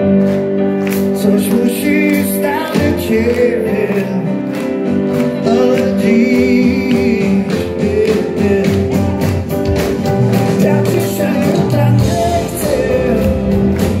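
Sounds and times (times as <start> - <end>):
electric guitar: 0.0 - 14.0
steady drumbeat: 0.4 - 4.1, 4.9 - 14.0.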